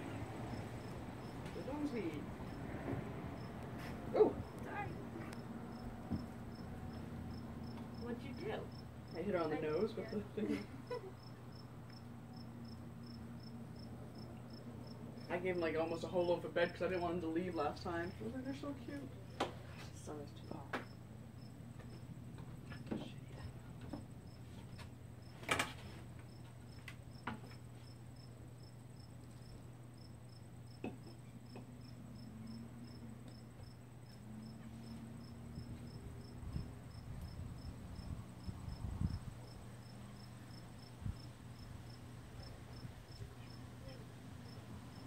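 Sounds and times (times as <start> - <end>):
cricket chirping: 0.1 - 19.5, 20.1 - 45.0.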